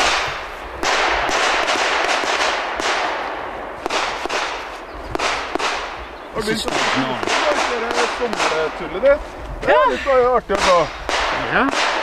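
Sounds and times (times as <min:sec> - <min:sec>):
pistol shots echoing: 0:00.0 - 0:09.0, 0:10.5 - 0:12.0.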